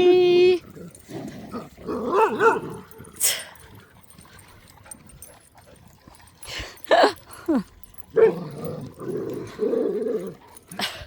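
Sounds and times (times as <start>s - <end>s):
dogs growling in play: 0.6s - 11.0s
dogs yipping: 1.6s - 10.9s.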